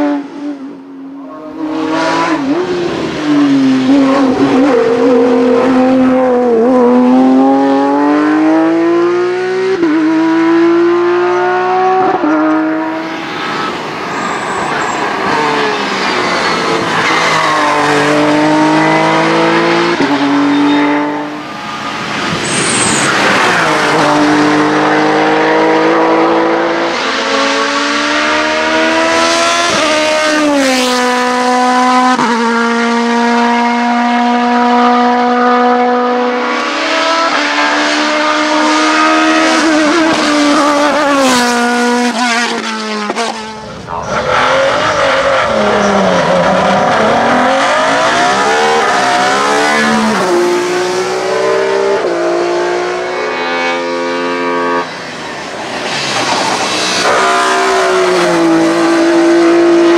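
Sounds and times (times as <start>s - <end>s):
race car engines at full throttle: 0.0s - 59.9s.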